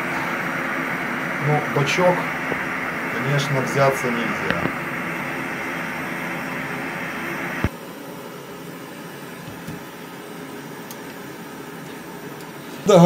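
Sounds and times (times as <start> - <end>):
stove flame hissing: 0.0 - 13.0.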